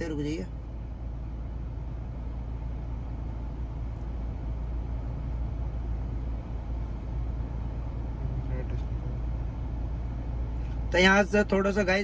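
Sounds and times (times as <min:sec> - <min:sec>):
car engine idling rumble: 0:00.0 - 0:12.0.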